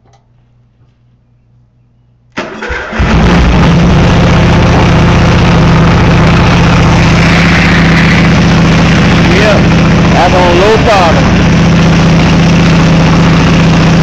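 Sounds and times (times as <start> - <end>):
lawnmower engine running: 2.4 - 14.0.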